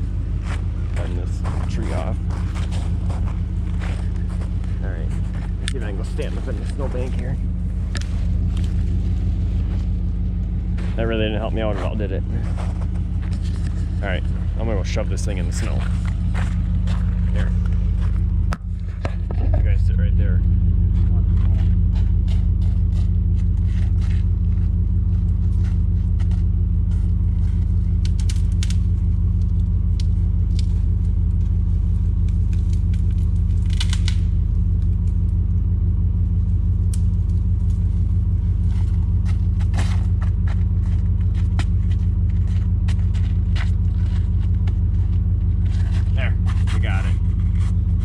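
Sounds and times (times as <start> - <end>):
truck engine idling: 0.0 - 48.0.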